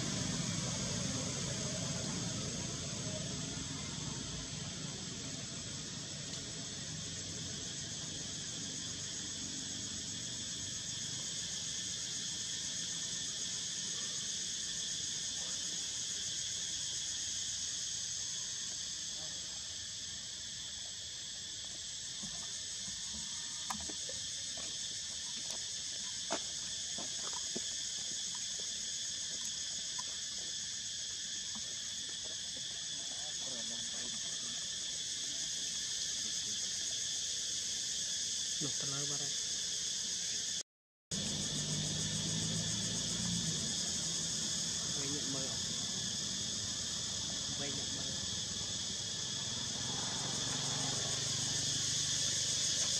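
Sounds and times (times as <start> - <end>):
insects calling: 0.0 - 52.9.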